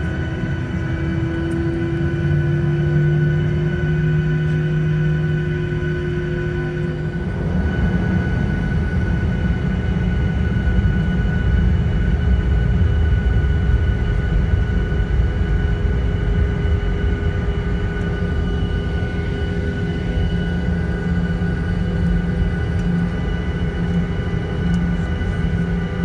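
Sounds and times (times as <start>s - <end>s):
aircraft engines rumbling: 0.0s - 26.0s.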